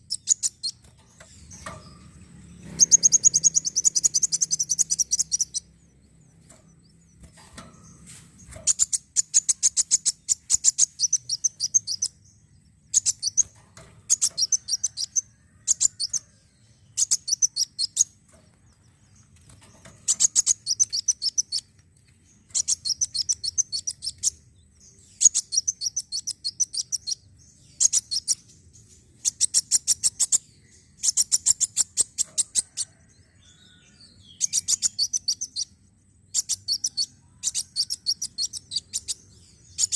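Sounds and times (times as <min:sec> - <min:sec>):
sunbird chirping: 0:00.0 - 0:39.9.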